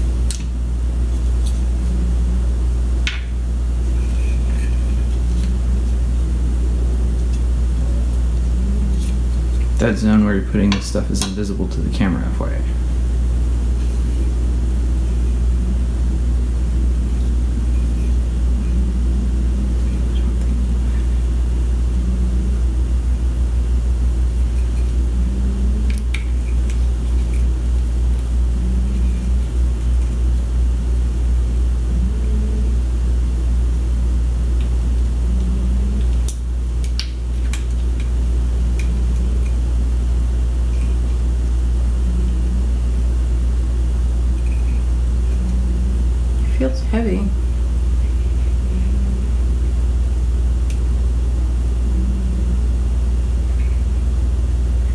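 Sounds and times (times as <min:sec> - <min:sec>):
machine low rumbling hum: 0:00.0 - 0:54.9.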